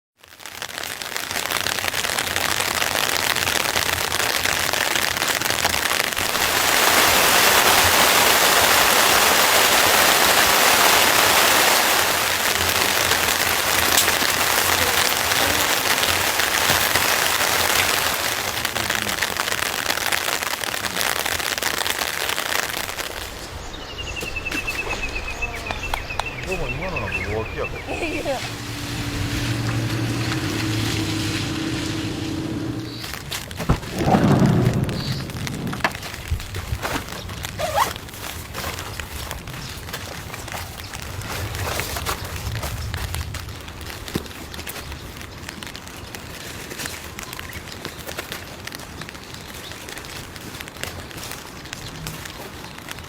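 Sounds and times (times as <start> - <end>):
heavy rain pouring: 0.2 - 53.0.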